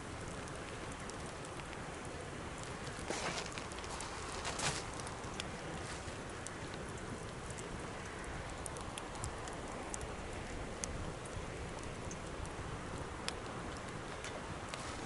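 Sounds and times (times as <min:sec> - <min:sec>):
campfire hissing: 0:00.0 - 0:15.0
wood crackling and popping: 0:00.0 - 0:15.0.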